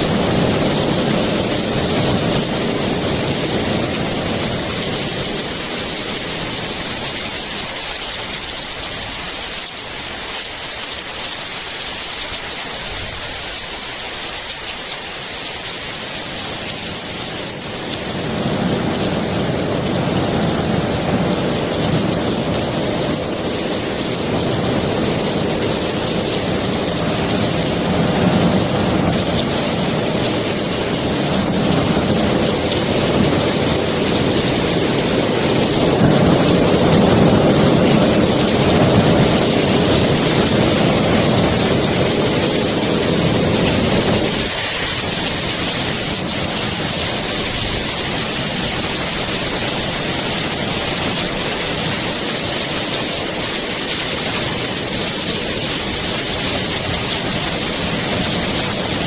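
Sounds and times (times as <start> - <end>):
rolling thunder: 0.0 - 9.4, 16.4 - 59.0
heavy rain falling: 0.0 - 59.0.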